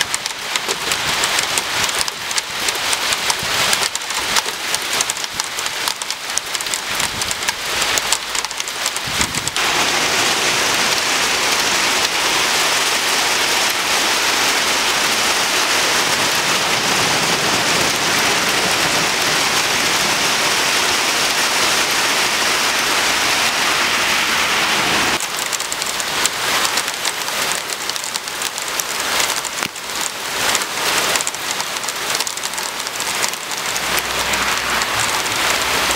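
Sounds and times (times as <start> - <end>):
hail rattling on window ledge: 0.0 - 23.4, 25.2 - 35.9
hail and heavy rain hissing: 0.0 - 35.9.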